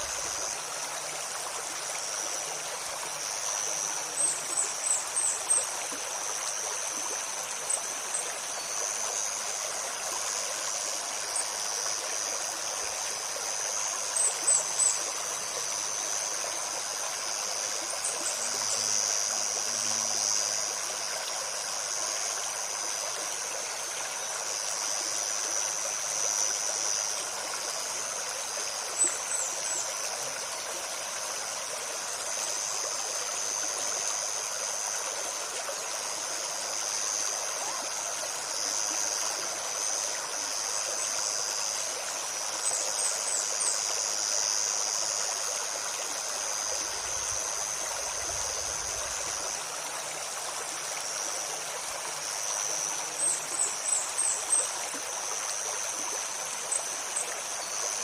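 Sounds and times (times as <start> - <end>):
forest stream babbling: 0.0 - 58.0
insect buzz: 0.0 - 58.0.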